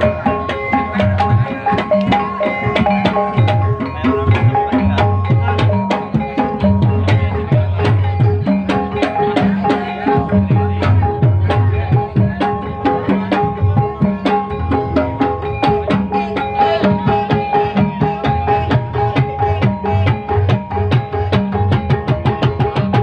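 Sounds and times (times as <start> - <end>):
barrel drum beaten fast: 0.0 - 23.0.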